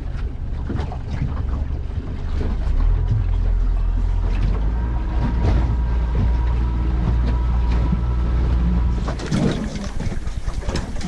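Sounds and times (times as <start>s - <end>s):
outboard motor droning: 0.0s - 11.0s
wind and water rushing: 0.0s - 11.0s.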